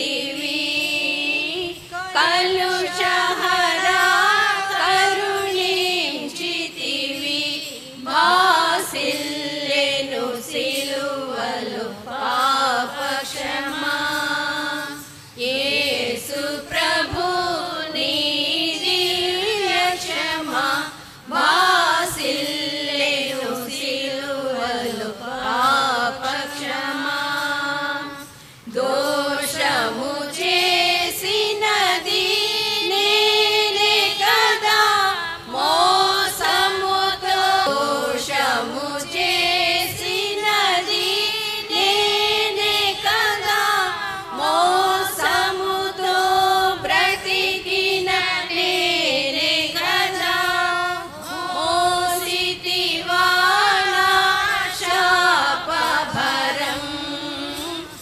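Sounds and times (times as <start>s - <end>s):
women singing a hymn: 0.0s - 58.0s.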